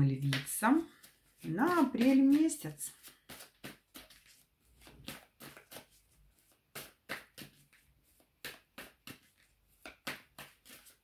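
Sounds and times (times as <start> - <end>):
cards being shuffled: 0.2 - 11.0.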